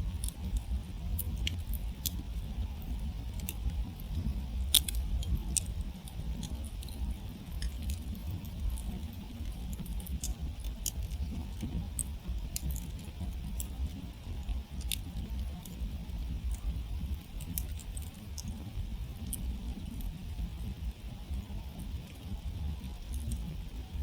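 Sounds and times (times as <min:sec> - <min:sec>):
campfire crackling and popping: 0:00.0 - 0:24.0
steady low rumble: 0:00.0 - 0:24.0.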